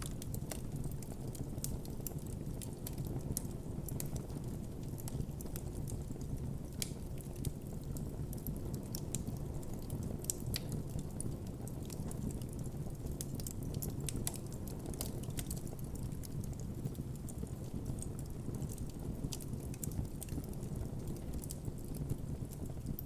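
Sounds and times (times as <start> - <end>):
burning wood crackling and popping: 0.0 - 23.0
campfire flames rumbling: 0.0 - 23.0.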